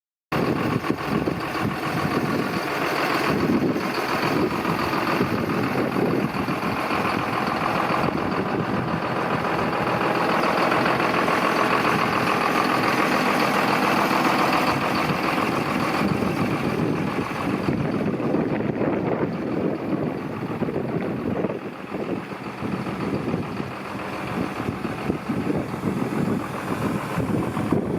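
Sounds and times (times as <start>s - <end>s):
tractor diesel engine running: 0.3s - 27.9s.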